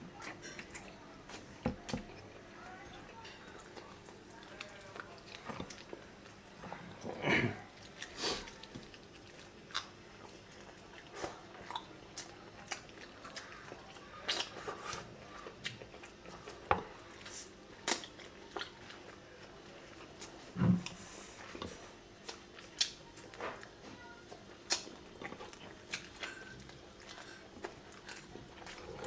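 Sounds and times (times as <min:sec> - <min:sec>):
chewing: 0:00.2 - 0:29.0.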